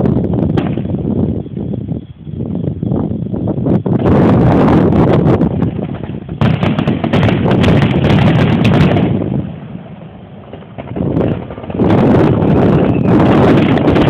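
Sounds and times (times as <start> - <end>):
fireworks crackling and banging: 0.0 - 1.3, 4.0 - 14.0
wind rumble on microphone: 0.0 - 14.0.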